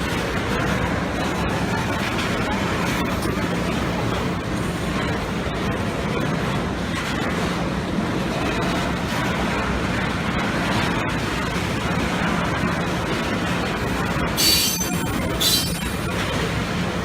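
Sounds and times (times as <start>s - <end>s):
freight train rumbling past: 0.0s - 17.0s
low steady drone: 0.0s - 17.0s.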